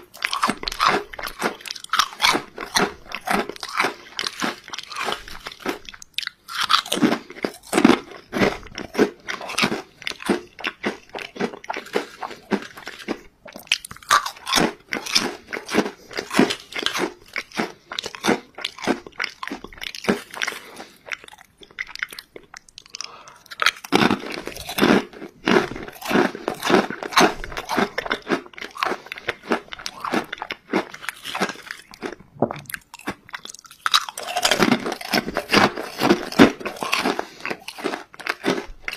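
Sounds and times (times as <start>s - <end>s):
potato chips crunching: 0.0s - 38.9s.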